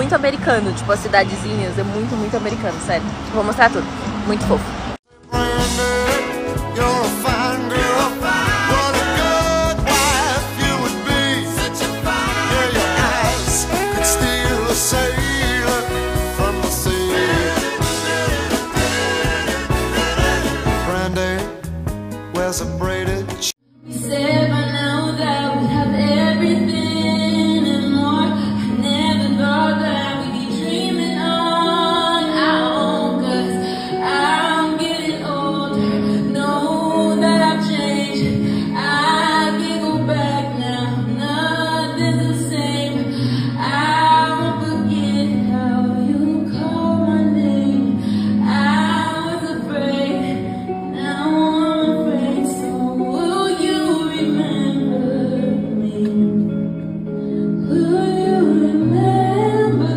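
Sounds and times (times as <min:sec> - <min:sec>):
electric guitar: 0:05.1 - 0:59.9
woman singing: 0:05.3 - 0:20.5, 0:23.8 - 0:56.8, 0:57.5 - 0:59.9.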